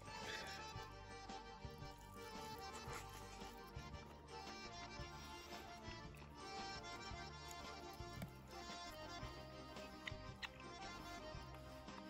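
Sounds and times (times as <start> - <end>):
folk background music: 0.0 - 12.0.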